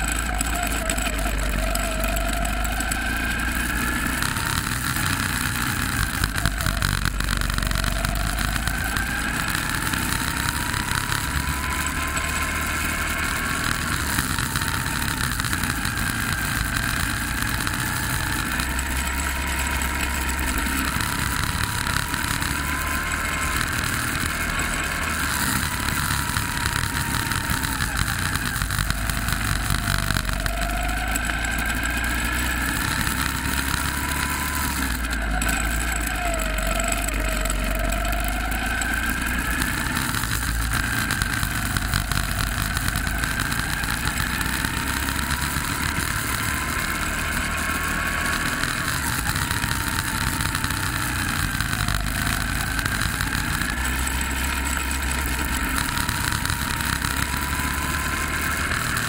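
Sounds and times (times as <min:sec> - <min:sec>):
low rumble and rattle: 0:00.0 - 0:47.4
go-kart motor revving: 0:00.0 - 0:59.0.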